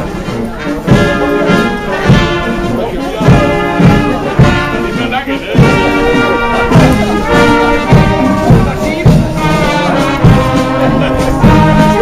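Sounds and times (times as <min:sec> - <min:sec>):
brass band playing march: 0:00.0 - 0:12.0
drum beats: 0:00.0 - 0:12.0.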